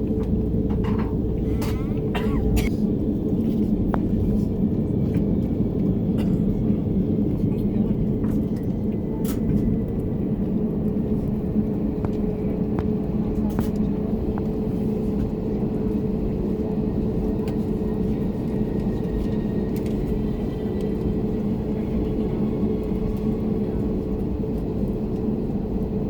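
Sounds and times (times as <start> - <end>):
aircraft cabin rumble: 0.0 - 26.0
constant cabin hum: 0.0 - 26.0.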